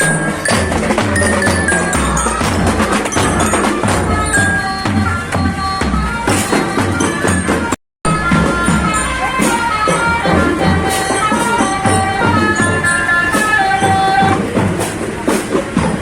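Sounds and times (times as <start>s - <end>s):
marching band melody: 0.0s - 16.0s
steady drum beats: 0.0s - 16.0s.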